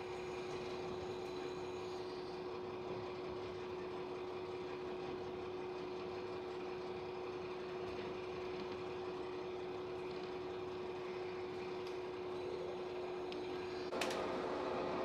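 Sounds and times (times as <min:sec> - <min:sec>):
railcar interior drone: 0:00.0 - 0:15.0.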